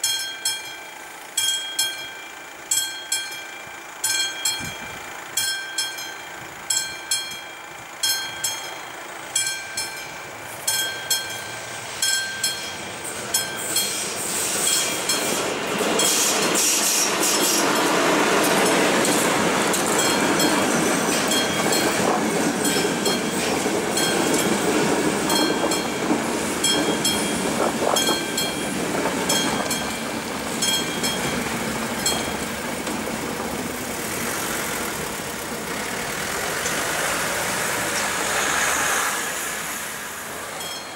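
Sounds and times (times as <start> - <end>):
train wheels rushing on rails: 0.0 - 40.9.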